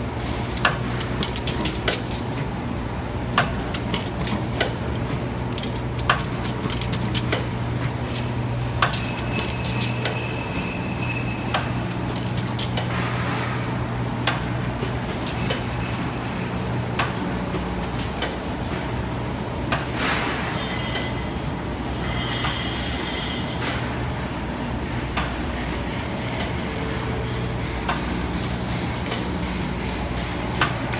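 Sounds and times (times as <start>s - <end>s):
packing machine hum: 0.0s - 30.9s.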